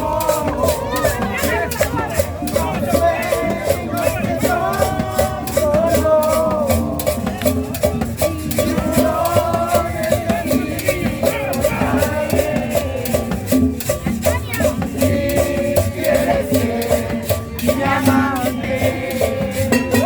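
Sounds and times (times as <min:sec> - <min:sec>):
latin dance music: 0:00.0 - 0:20.0
shaker rhythm: 0:00.0 - 0:20.0.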